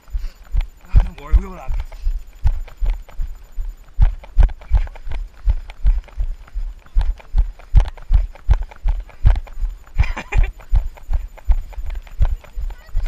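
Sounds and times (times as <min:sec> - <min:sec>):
running footsteps thudding: 0:00.0 - 0:13.0.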